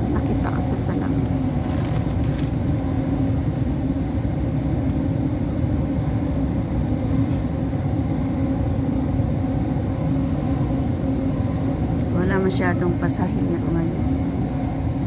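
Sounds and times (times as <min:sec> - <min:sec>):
train rumbling inside carriage: 0:00.0 - 0:15.0.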